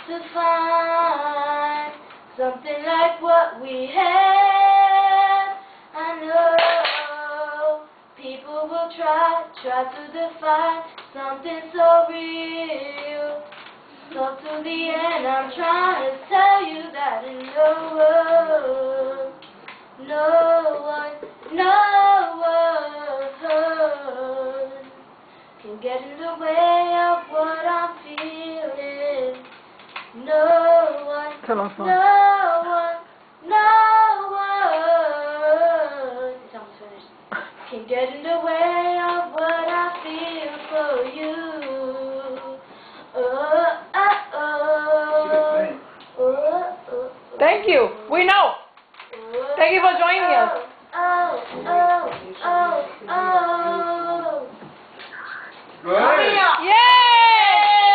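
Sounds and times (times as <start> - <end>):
girl singing: 0.0 - 48.2, 49.0 - 57.9.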